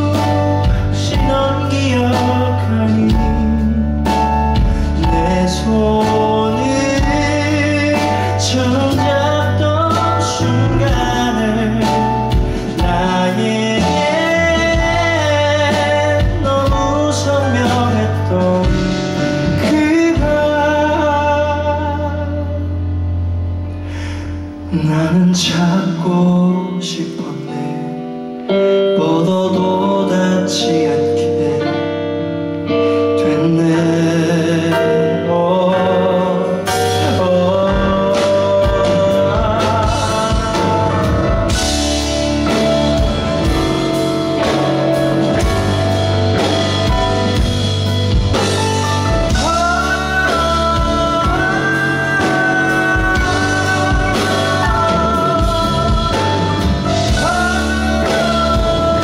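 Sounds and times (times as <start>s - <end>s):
man singing: 0.0s - 23.0s, 24.0s - 59.0s
live rock band playing: 0.0s - 59.0s.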